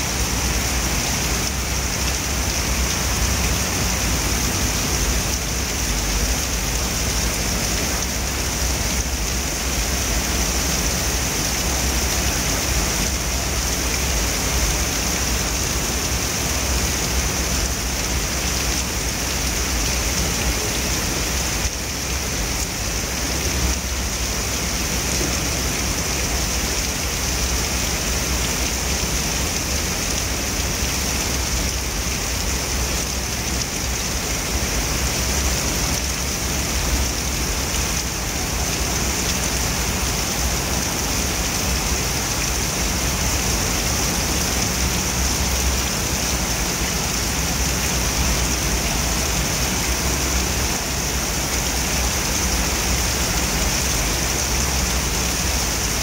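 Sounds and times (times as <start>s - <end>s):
heavy rain on wet paving: 0.0s - 56.0s.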